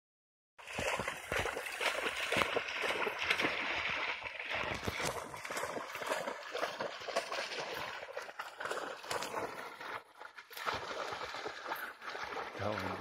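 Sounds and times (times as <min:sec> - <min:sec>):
dog splashing through water: 0:00.6 - 0:13.0.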